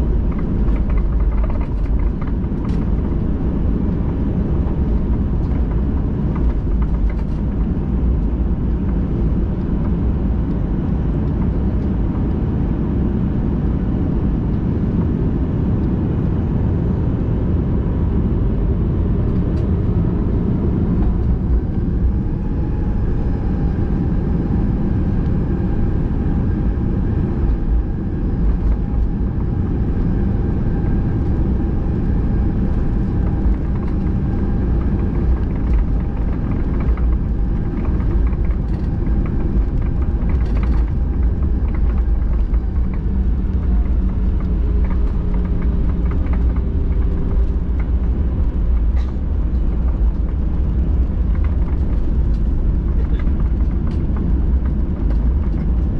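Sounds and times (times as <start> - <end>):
airplane cabin rumble: 0.0 - 55.9
faint jet engine whine: 0.0 - 55.9.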